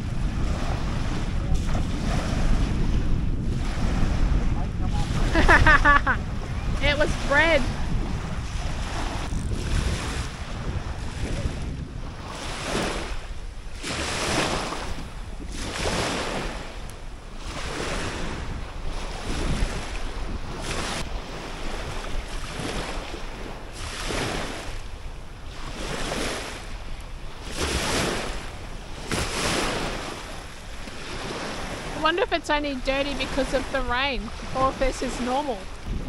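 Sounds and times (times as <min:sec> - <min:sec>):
waves washing at shore: 0:00.0 - 0:36.0
wind rumbling on microphone: 0:00.0 - 0:36.0.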